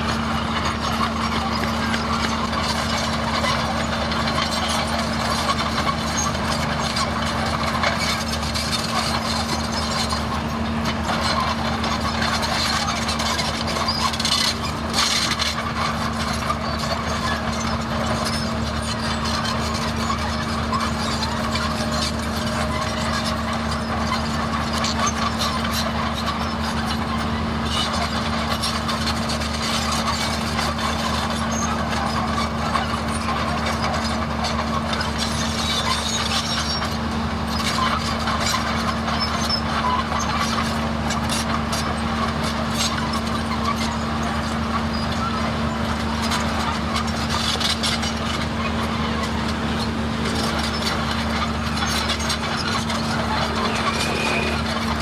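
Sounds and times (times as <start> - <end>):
bulldozer diesel engine drone: 0.0 - 55.0
rough mechanical rattle: 0.0 - 55.0.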